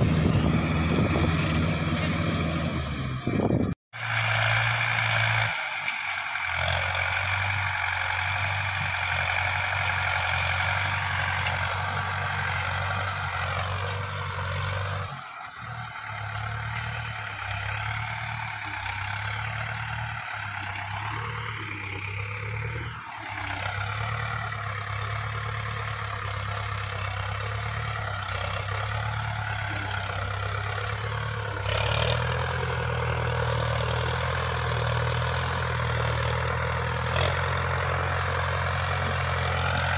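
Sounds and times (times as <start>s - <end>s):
high engine whine: 0.0s - 39.9s
tractor diesel engine under load: 0.0s - 39.9s.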